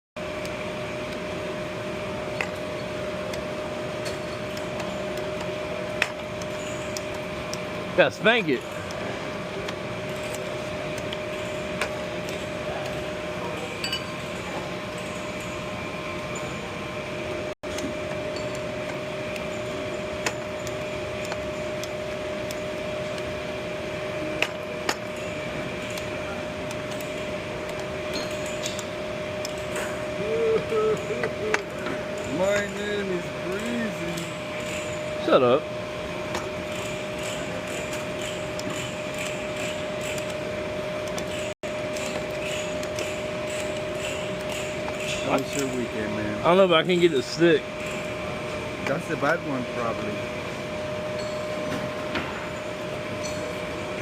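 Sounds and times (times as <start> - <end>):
pipe-threading machine motor hum: 0.2 - 54.0.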